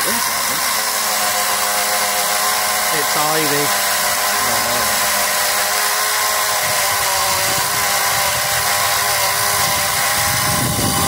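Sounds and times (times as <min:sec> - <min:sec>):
electric chainsaw cutting: 0:00.0 - 0:11.0.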